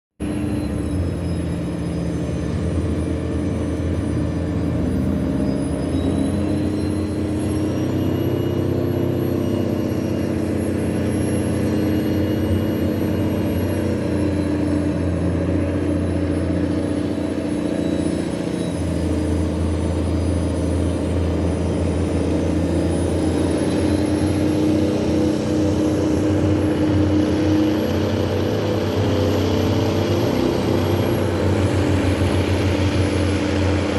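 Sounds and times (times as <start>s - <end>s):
boat engine drone: 0.2s - 33.9s
thin high whine: 0.2s - 33.9s.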